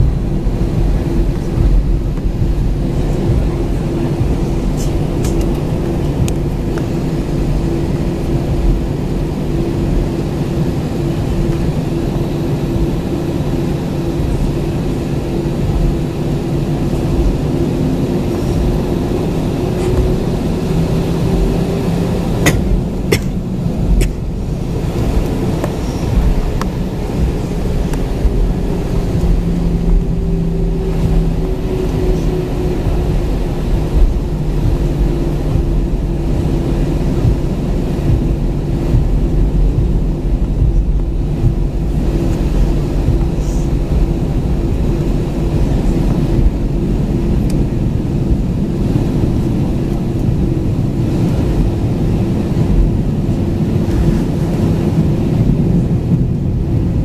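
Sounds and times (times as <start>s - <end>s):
aircraft engines low rumble: 0.0s - 57.0s
held low tones: 0.0s - 57.0s.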